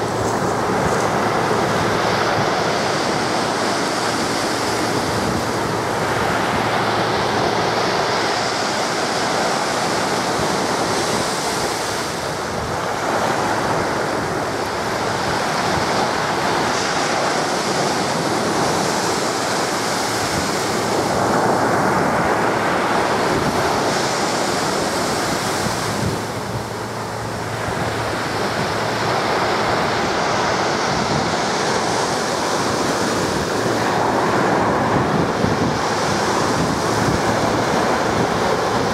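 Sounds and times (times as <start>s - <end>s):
sea surf on pebble beach: 0.0s - 38.9s
wind on microphone: 0.0s - 38.9s.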